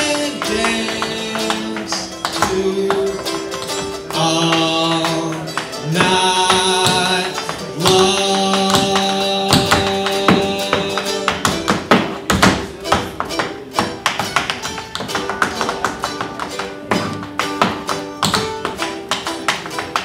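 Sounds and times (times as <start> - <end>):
tap shoes clicking on hard floor: 0.0 - 20.0
upbeat recorded song: 0.0 - 20.0.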